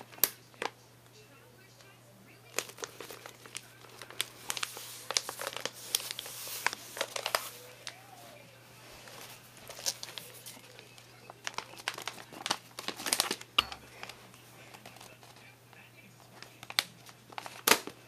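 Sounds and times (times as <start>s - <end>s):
paper tubes rustling and crinkling: 2.5s - 18.0s.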